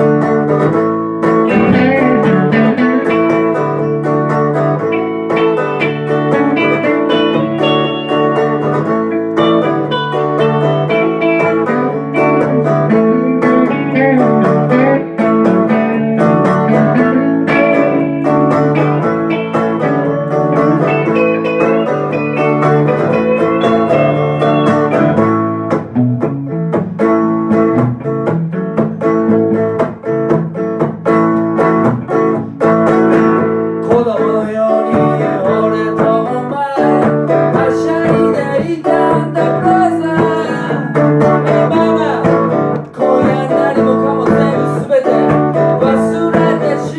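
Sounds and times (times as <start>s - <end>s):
blues guitar playing: 0.0s - 46.9s.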